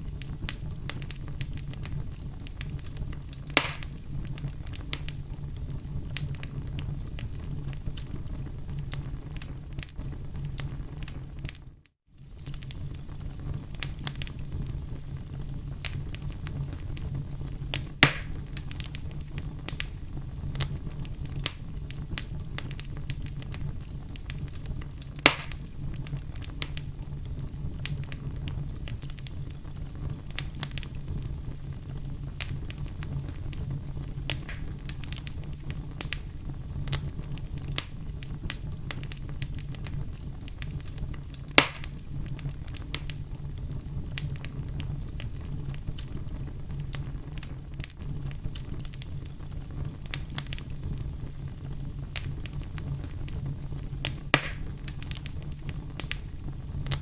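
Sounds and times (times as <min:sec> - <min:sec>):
fire crackling: 0:00.0 - 0:57.0
fire pops: 0:00.0 - 0:57.0.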